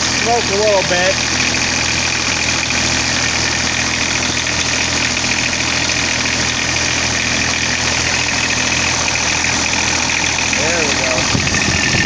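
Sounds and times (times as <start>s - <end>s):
diesel mower engine idling: 0.0s - 12.0s.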